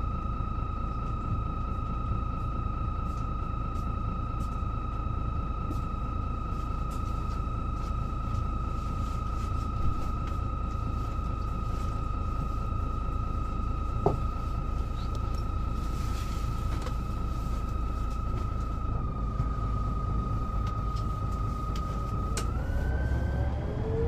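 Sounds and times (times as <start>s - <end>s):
high gearbox whine: 0.0s - 24.0s
bus diesel engine rumble: 0.9s - 24.0s.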